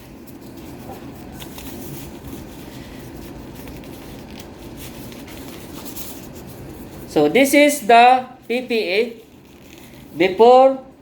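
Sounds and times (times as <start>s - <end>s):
gloves rustling: 0.0s - 10.6s
steady low hum: 0.0s - 11.0s.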